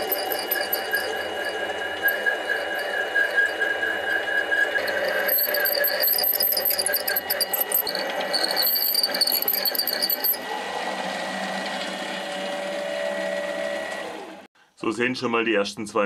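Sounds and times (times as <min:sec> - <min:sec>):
lathe cutting metal squealing: 0:00.0 - 0:14.5
lathe motor hum: 0:00.0 - 0:14.5.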